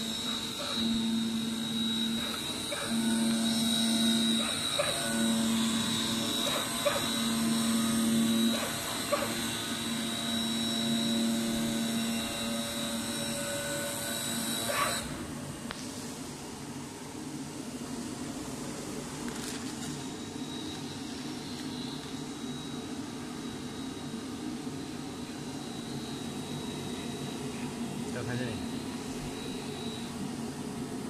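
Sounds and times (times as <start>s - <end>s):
cutting machine high whine: 0.0s - 31.0s
lower motor hum: 0.0s - 31.0s.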